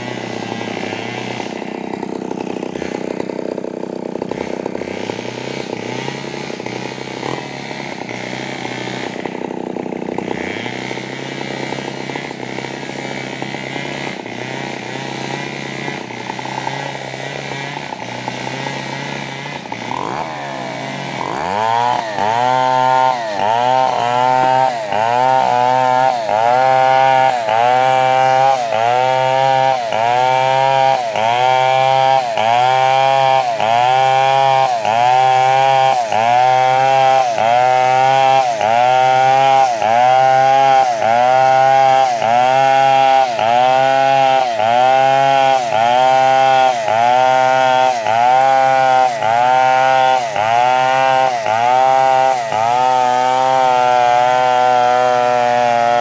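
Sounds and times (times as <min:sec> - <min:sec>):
two-stroke chainsaw running: 0:00.0 - 0:56.0.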